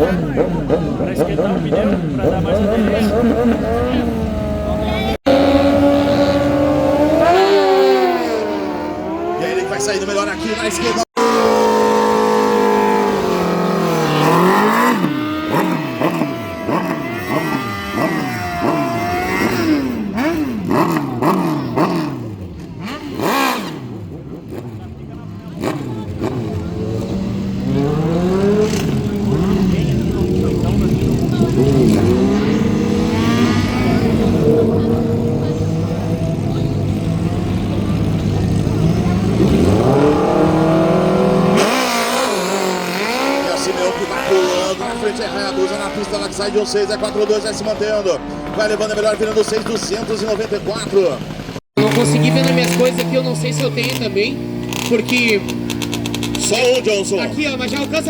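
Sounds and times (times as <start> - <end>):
drag racing engine revving: 0.0 - 58.0.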